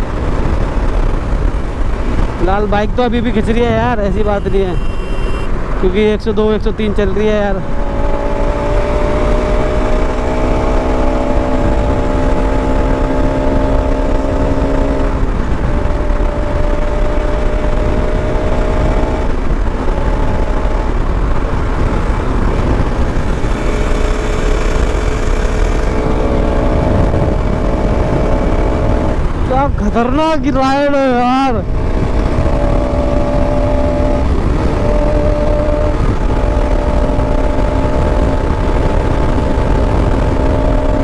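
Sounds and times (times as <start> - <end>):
motorcycle engine running: 0.0 - 5.8, 7.2 - 41.0
wind rush on microphone: 0.0 - 41.0.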